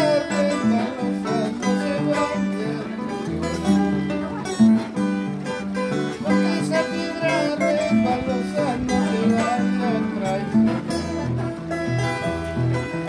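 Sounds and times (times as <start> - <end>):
harp playing plucked melody: 0.0 - 13.0.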